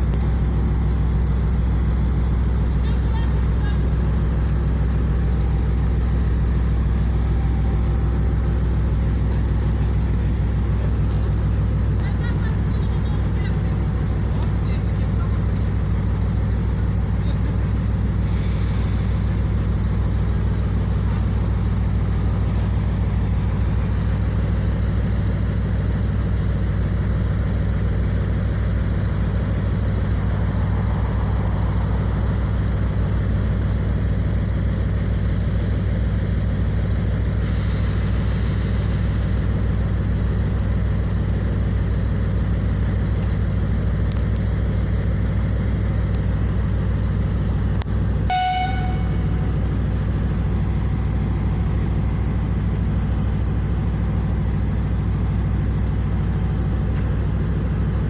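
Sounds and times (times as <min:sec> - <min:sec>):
diesel train engine idling: 0:00.0 - 0:58.0.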